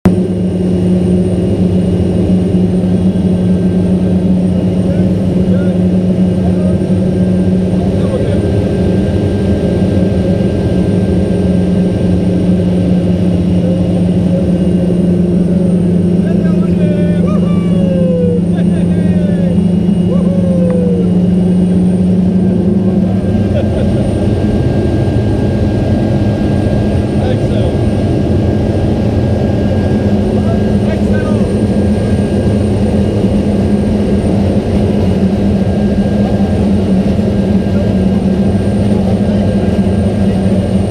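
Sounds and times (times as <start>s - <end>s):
turboprop engine low hum: 0.0s - 40.9s.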